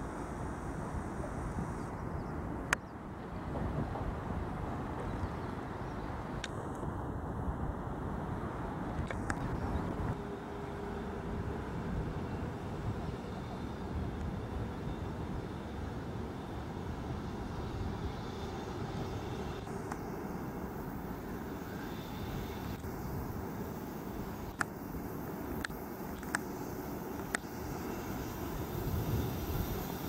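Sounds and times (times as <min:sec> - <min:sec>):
low rumble of passing vehicles: 0:02.4 - 0:30.0.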